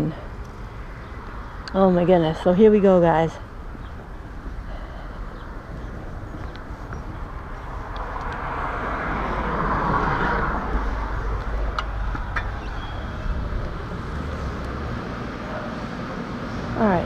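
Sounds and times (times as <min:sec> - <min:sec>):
low traffic rumble: 0:00.0 - 0:17.0
vehicle passing: 0:00.0 - 0:17.0.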